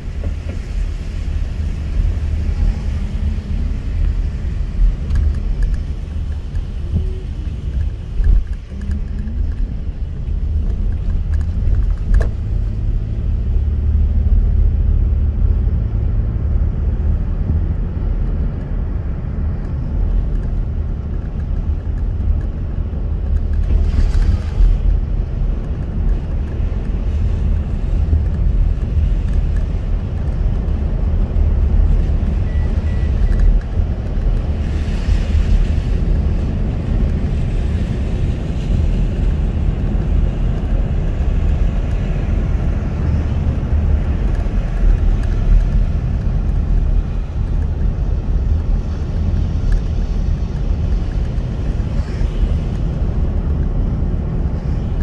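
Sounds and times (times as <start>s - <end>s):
road and tyre rumble in car: 0.0s - 55.0s.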